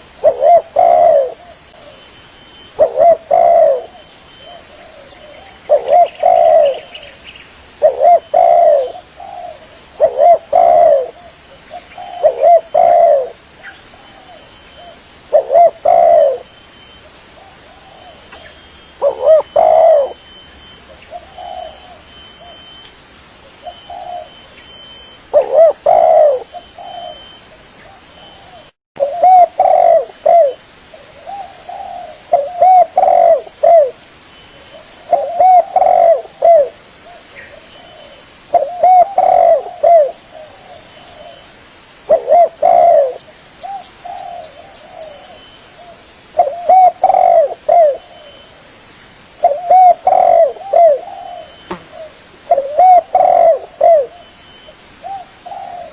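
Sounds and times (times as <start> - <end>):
dove cooing: 0.0 - 22.8, 23.4 - 34.0, 34.6 - 41.5, 42.1 - 48.5, 49.4 - 55.9.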